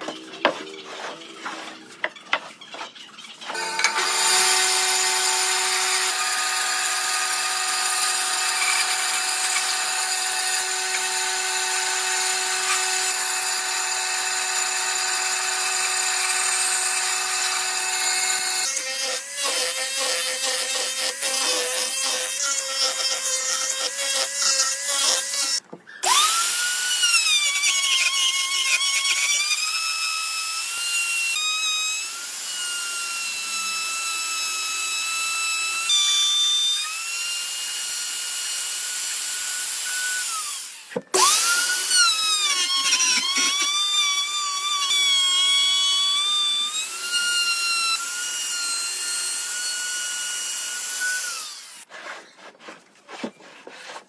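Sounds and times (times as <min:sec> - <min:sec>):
power tool motor cutting wood: 0:03.5 - 0:51.9.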